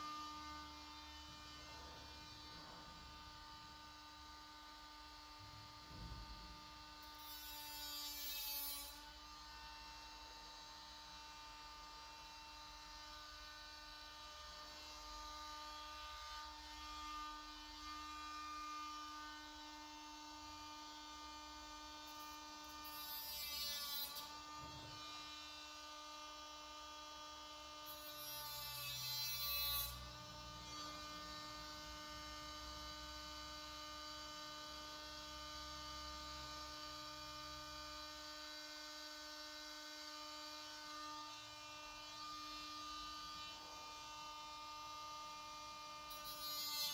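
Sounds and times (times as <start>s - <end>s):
repair gun electrical hum and whine: 0.0s - 46.9s.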